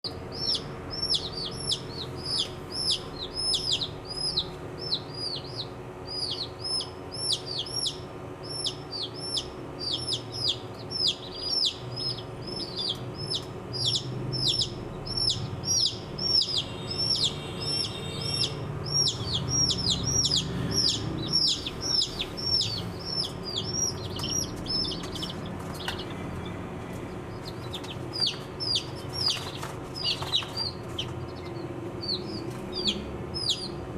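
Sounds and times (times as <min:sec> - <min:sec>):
baby chicks peeping: 0:00.0 - 0:33.9
faint steady hum: 0:00.1 - 0:33.9.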